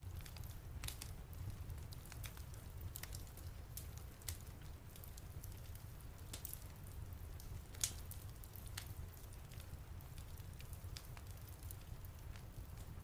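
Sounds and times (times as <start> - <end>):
low rumble of fire: 0.0 - 13.0
wood fire crackling and popping: 0.0 - 13.0.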